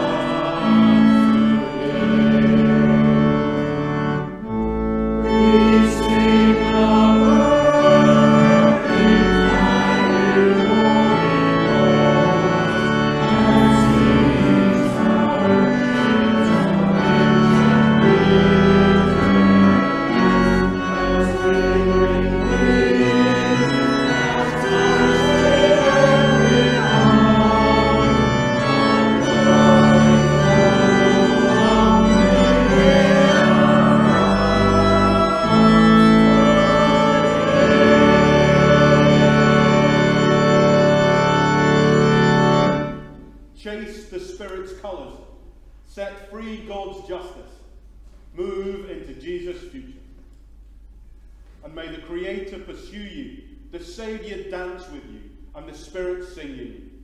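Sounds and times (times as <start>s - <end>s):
church organ sustained chords: 0.0s - 57.0s.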